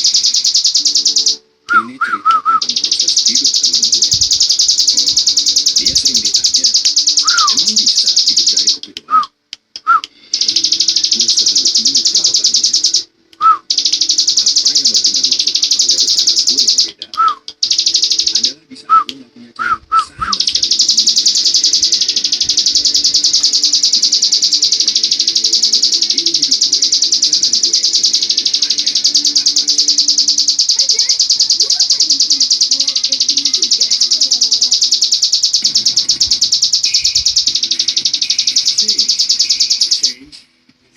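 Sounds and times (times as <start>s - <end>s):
bird fast rattling trill: 0.0s - 1.4s, 2.6s - 8.8s, 10.4s - 13.1s, 13.7s - 16.9s, 17.6s - 18.6s, 20.3s - 40.2s.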